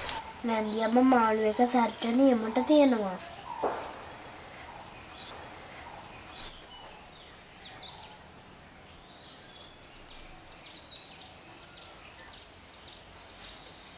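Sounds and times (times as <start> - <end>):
birds chirping: 0.0 - 13.9
faint steady hiss: 0.0 - 13.9.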